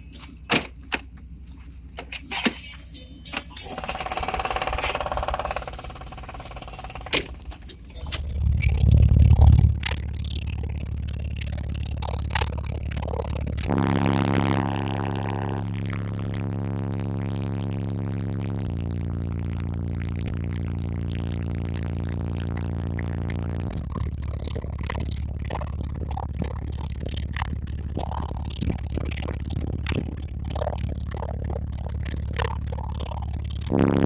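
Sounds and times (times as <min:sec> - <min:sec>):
deep bass from subwoofers: 0:00.0 - 0:34.0
rattling and buzzing: 0:00.0 - 0:34.0.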